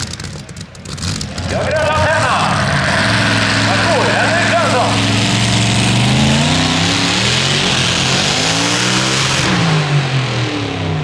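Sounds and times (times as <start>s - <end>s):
tractor engine revving hard: 0.0s - 11.0s
loud rushing noise: 1.3s - 10.6s.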